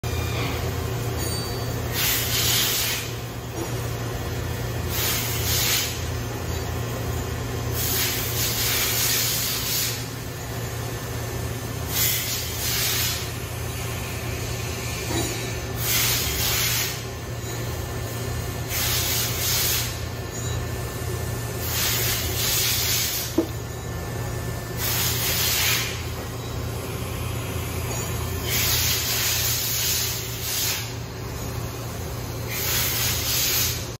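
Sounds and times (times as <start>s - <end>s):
low background hum: 0.0s - 34.0s.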